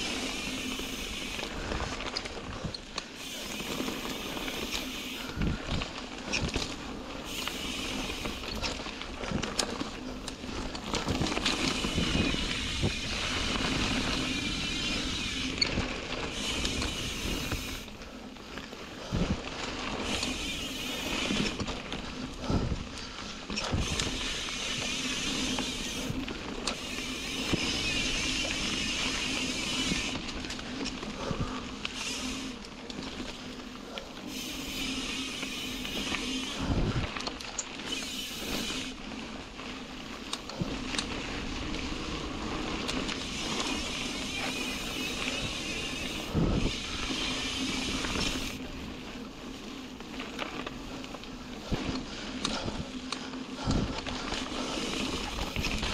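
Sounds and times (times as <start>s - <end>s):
bike knocking and rattling: 0.0s - 55.9s
bike tyres rolling on gravel: 0.0s - 55.9s.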